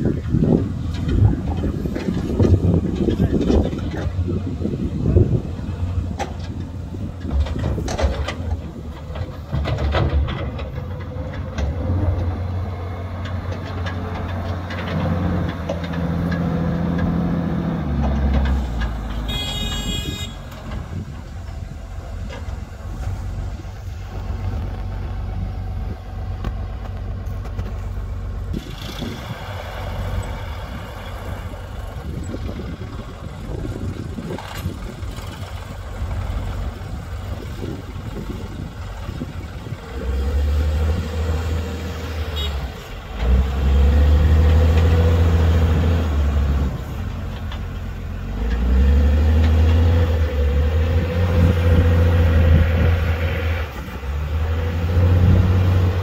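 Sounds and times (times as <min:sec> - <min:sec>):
wheel loader diesel engine: 0:00.0 - 0:56.0.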